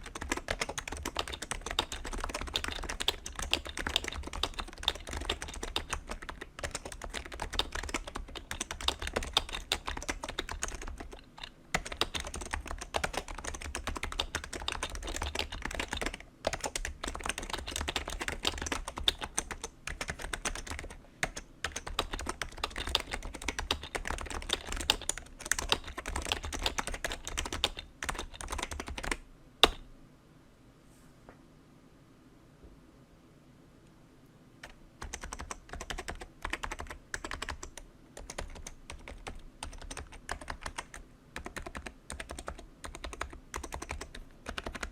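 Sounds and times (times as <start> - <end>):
fast typing on keyboard: 0.0 - 29.8, 34.6 - 44.9.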